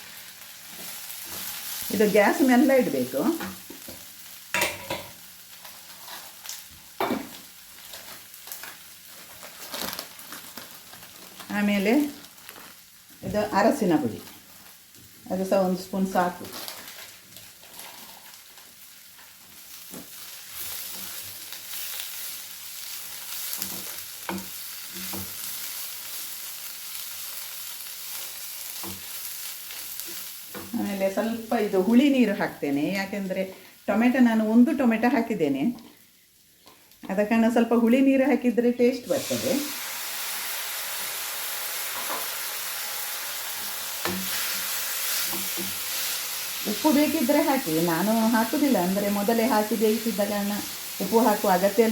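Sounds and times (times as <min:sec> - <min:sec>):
spices sizzling in oil: 0:00.0 - 0:51.9.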